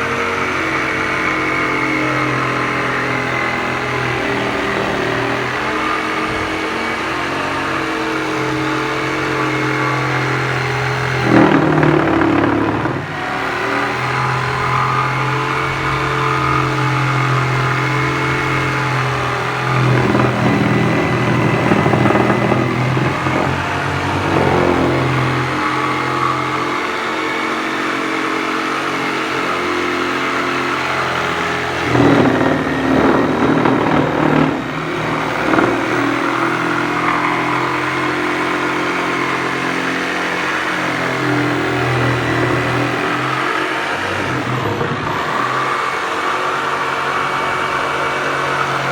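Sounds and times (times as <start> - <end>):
power tool motor running: 0.0 - 48.9
tool rasping into wood: 0.0 - 48.9.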